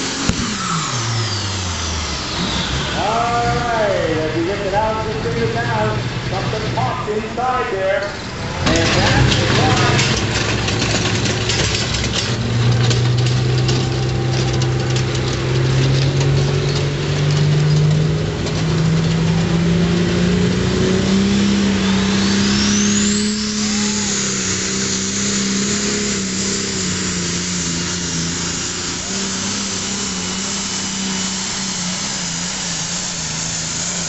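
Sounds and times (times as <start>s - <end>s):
diesel tractor engine revving: 0.0s - 34.0s
high whine: 0.0s - 34.0s.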